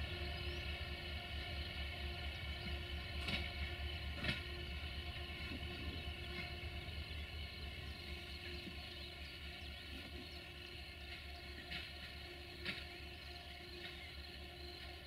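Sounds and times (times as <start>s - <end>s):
train rumbling: 0.0s - 15.0s
wheels clicking on track: 0.0s - 15.0s.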